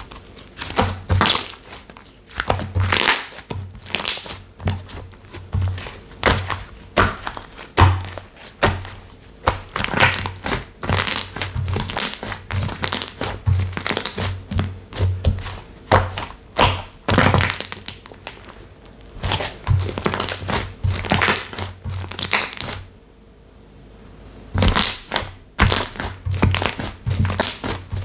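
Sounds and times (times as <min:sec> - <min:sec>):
slime squished by hand: 0:00.0 - 0:18.6, 0:19.2 - 0:22.9, 0:24.6 - 0:28.0.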